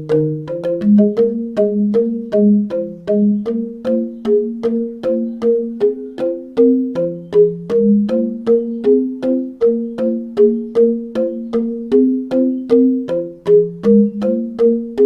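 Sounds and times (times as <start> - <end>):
keyboard chords repeating pattern: 0.0 - 15.0.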